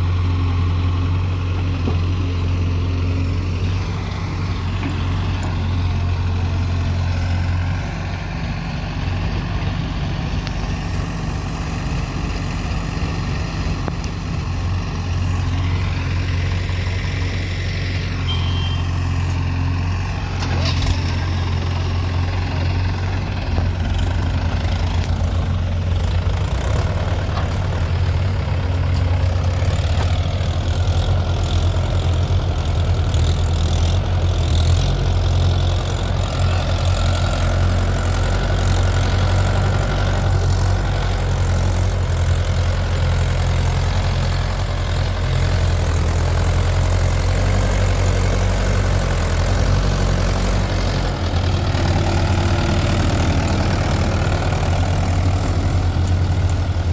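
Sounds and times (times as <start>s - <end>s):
diesel engine idling: 0.0s - 56.9s.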